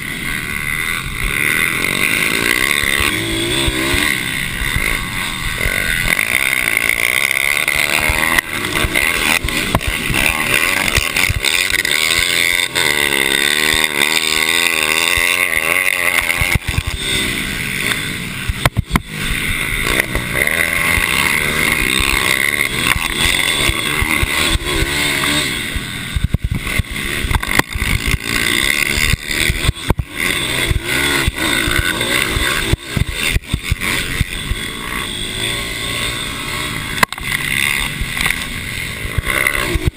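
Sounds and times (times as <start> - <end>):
mini bike engines at high revs: 0.0 - 39.9.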